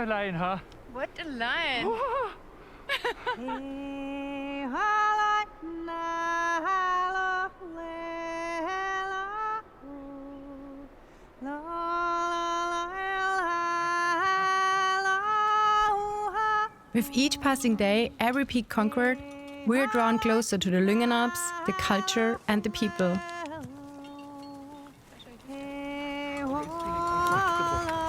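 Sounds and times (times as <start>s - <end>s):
woman singing long held notes: 3.4s - 28.0s.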